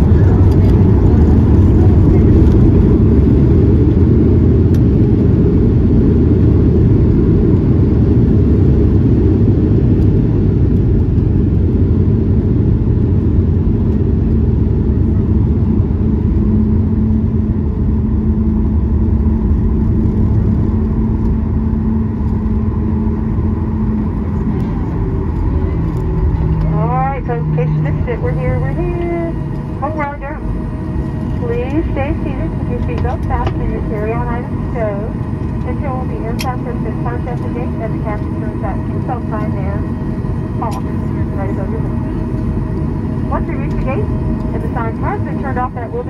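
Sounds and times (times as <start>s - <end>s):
aircraft cabin engine rumble: 0.0s - 46.0s
steady hum: 0.0s - 46.0s.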